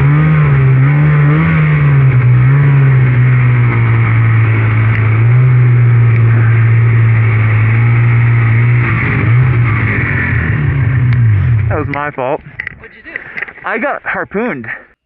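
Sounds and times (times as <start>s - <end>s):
snowmobile engine running: 0.0s - 14.4s.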